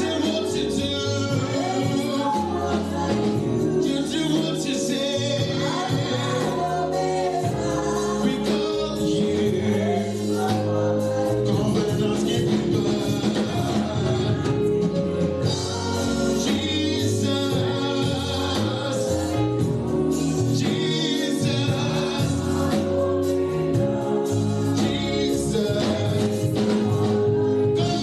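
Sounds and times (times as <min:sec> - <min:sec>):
band with steady bass line: 0:00.0 - 0:28.0
gospel choir singing: 0:00.0 - 0:28.0.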